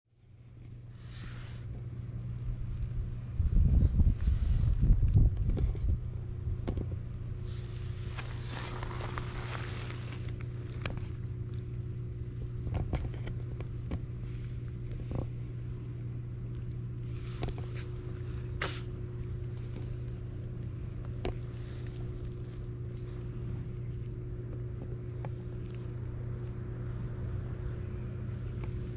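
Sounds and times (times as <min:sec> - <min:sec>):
low mechanical hum: 0:00.1 - 0:28.9.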